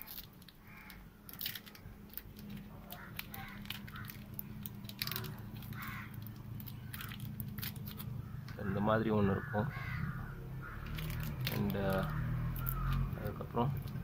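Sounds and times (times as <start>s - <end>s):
plastic packets crinkling: 0.0s - 8.1s, 10.8s - 14.0s
low steady hum: 0.0s - 14.0s.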